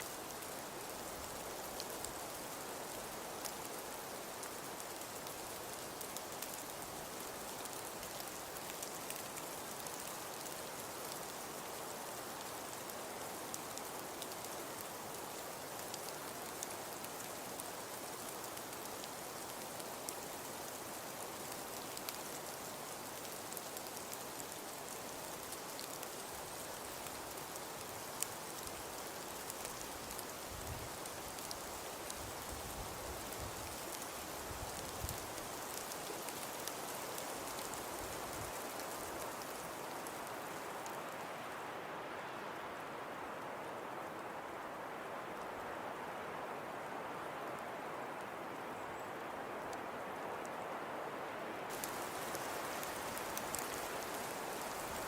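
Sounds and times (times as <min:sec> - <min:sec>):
precipitation pattering hiss: 0:00.0 - 0:55.0.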